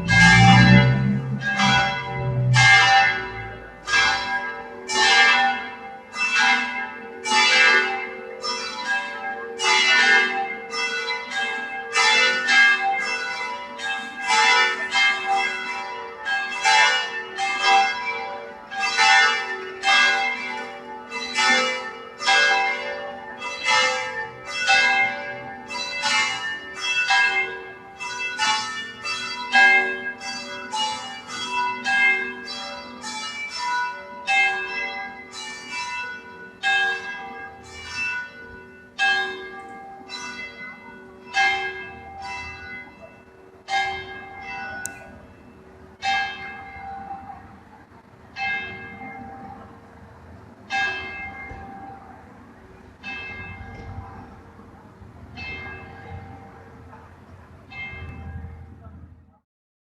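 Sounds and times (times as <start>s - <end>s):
church bells pealing: 0.0s - 59.4s.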